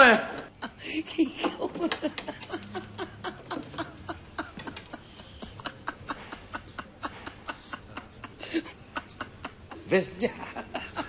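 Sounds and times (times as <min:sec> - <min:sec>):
rhythmic laughter: 0:00.4 - 0:11.0.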